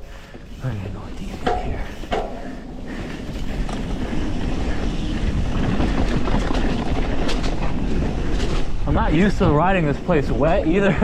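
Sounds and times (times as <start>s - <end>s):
tyres rolling through mud: 0.6s - 11.0s
wind rushing over microphone: 0.8s - 11.0s
bike rattling clicks and knocks: 1.2s - 11.0s.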